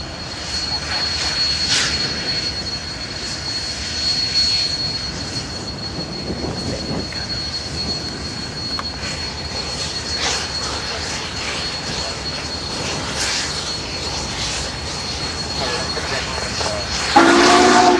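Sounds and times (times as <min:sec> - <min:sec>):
high whine: 0:00.0 - 0:17.9
steam locomotive hiss and rumble: 0:00.0 - 0:17.9.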